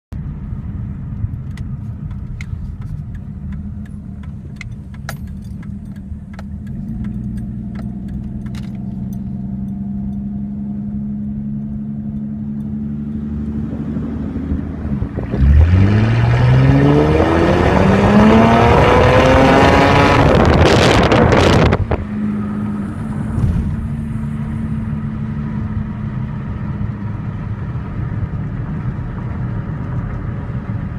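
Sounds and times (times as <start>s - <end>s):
car engine accelerating: 0.2s - 30.9s.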